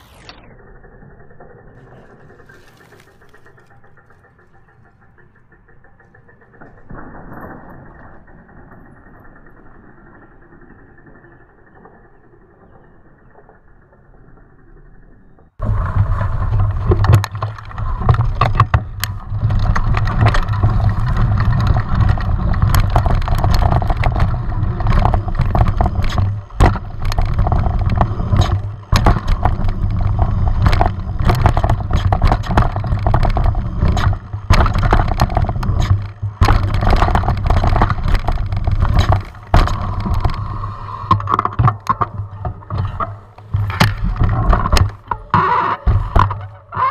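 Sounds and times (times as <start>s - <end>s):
bike clattering and rattling: 0.0s - 46.9s.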